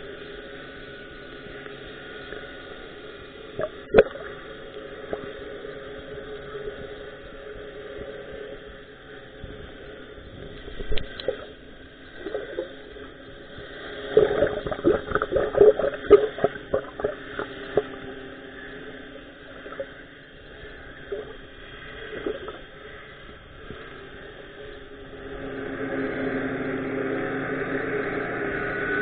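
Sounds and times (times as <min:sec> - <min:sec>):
underwater bubbling and gurgles: 0:00.0 - 0:25.9
muffled underwater hum: 0:00.0 - 0:29.0.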